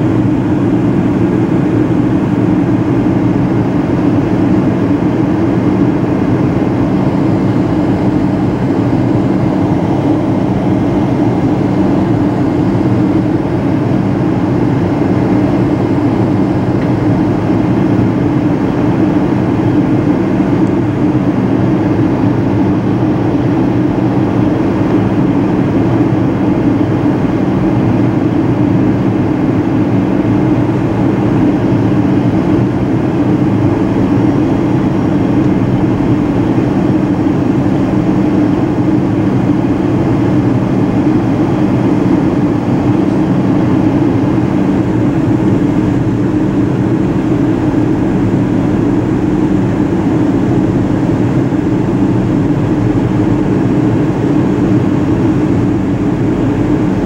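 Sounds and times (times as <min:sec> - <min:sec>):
jet engine cabin drone: 0:00.0 - 0:57.0
low even hum: 0:00.0 - 0:57.0.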